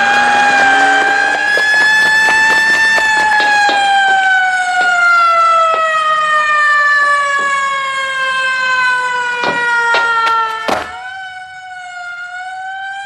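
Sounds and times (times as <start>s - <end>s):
alert siren wailing: 0.0s - 13.0s.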